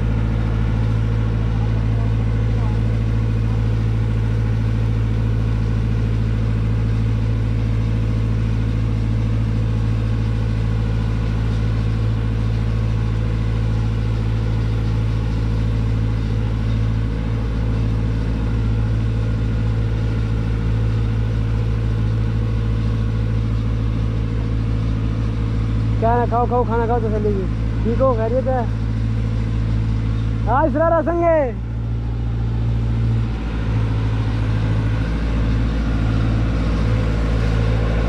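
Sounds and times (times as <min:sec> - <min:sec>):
low regular throbbing: 0:00.0 - 0:38.0
machinery engine droning: 0:00.0 - 0:38.0.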